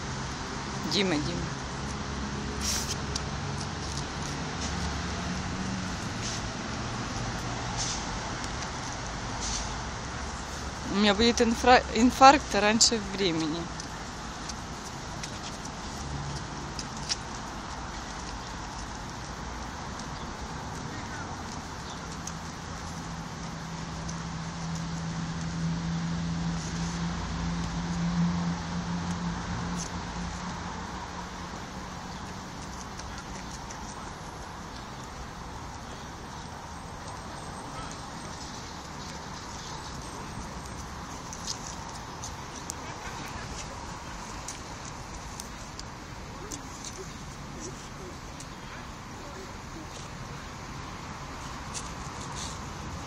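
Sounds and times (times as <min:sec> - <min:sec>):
distant road traffic hum: 0:00.0 - 0:53.0
outdoor background noise: 0:00.0 - 0:53.0.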